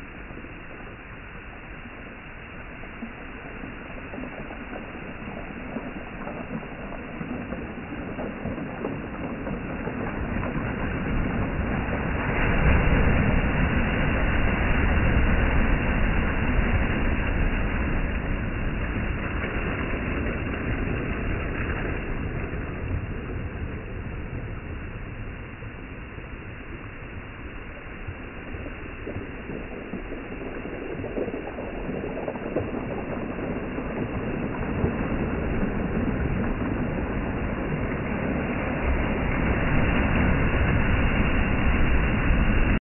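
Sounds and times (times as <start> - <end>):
waves breaking on pebble beach: 2.5 - 42.8.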